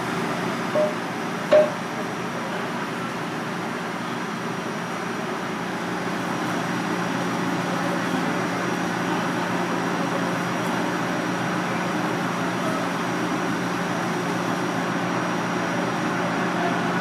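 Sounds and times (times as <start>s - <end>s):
ventilation fan running: 0.0s - 17.0s.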